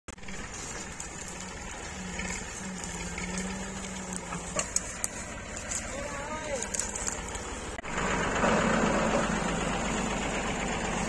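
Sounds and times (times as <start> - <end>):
tractor and thresher droning: 0.1 - 11.0.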